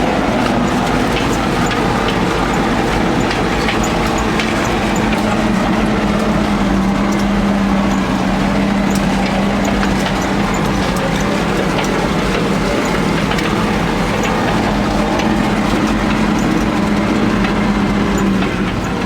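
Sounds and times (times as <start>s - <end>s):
clicks and rattles: 0.0s - 19.0s
truck engine running: 0.0s - 19.0s.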